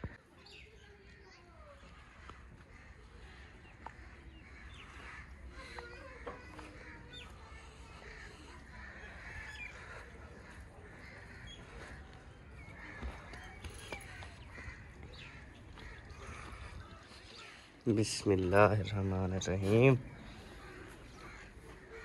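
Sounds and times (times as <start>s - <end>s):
bird calls: 0.0s - 22.0s
birds honking: 2.0s - 18.7s, 19.7s - 22.0s.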